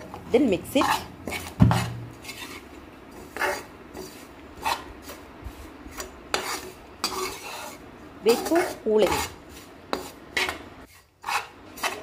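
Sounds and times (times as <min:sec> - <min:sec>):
spatula scraping a pan: 0:00.0 - 0:12.0.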